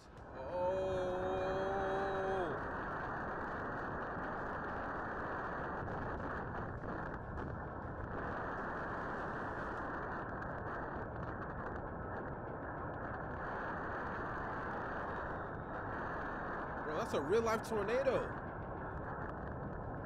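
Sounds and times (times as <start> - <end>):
wind buffeting microphone: 0.1 - 20.0.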